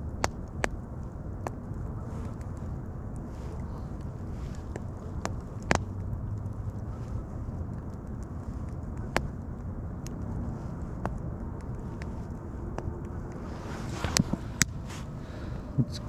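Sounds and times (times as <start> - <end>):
bonfire crackling pops: 0.0 - 16.0
low fire rumble: 0.0 - 16.0.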